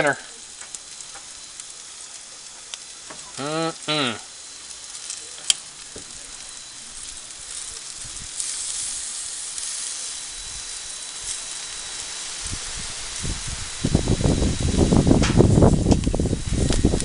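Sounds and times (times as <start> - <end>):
meat sizzling on a hot grill: 0.0 - 17.0.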